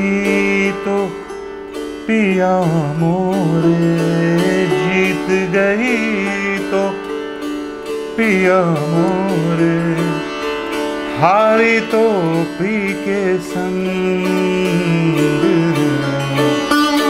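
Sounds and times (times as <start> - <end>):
man singing classical melody: 0.0 - 17.0
sitar: 0.0 - 17.0.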